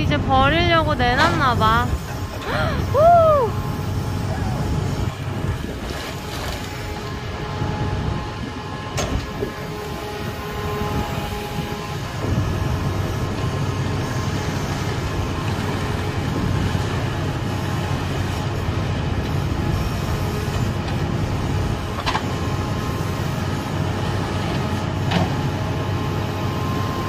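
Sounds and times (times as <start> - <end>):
crane engine and hydraulics humming: 0.0 - 27.0.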